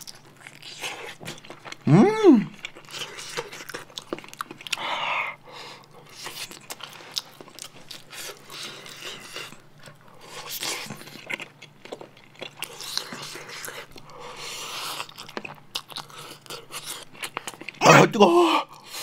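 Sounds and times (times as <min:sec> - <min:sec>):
chewing and biting food: 0:00.0 - 0:01.9, 0:02.5 - 0:17.8.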